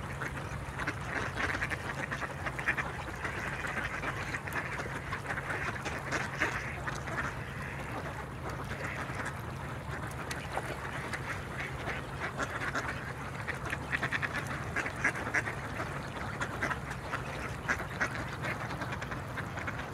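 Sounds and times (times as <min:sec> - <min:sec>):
ducks quacking: 0:00.0 - 0:19.9
steady low hum: 0:00.0 - 0:19.9.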